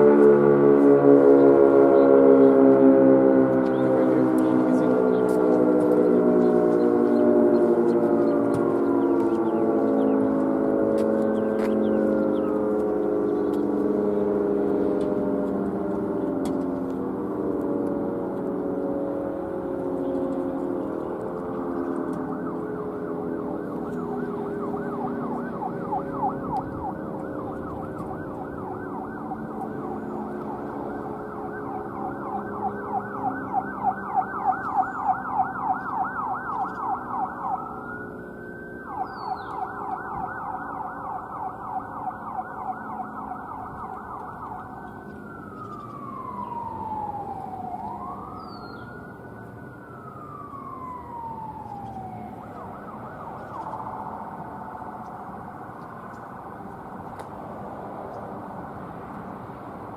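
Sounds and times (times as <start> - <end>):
siren wailing: 0.0 - 59.9.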